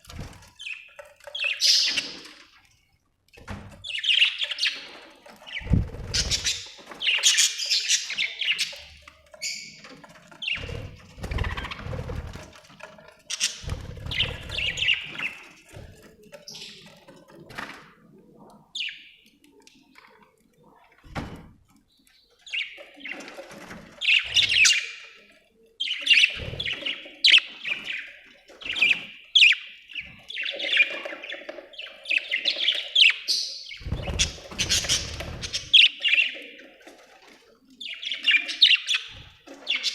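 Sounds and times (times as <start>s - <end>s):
budgies chirping and warbling: 0.0s - 2.7s, 3.4s - 17.7s, 18.3s - 21.0s, 22.0s - 39.9s.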